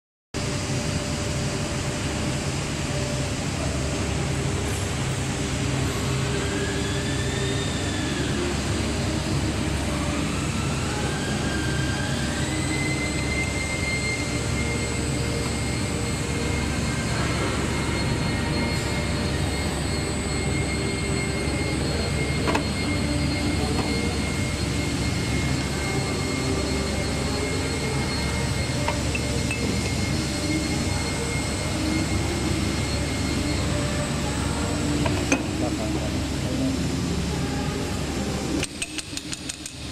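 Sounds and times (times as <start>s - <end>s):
machinery hum and whine: 0.4s - 39.9s.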